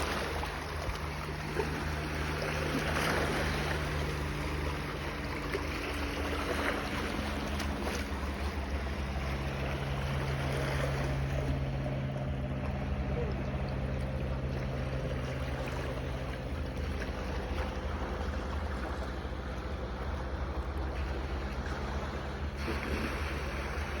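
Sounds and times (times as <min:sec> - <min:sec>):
low engine hum: 0:00.0 - 0:24.0
waves: 0:00.0 - 0:24.0
wind: 0:00.0 - 0:24.0.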